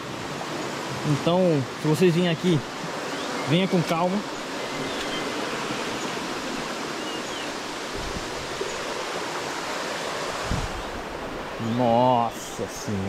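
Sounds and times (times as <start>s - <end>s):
water rushing over waterfall: 0.0s - 13.0s.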